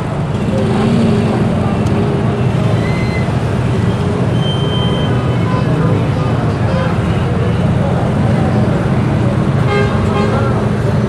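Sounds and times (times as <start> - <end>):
busy street rumble: 0.0 - 11.0
faint voices: 0.0 - 11.0.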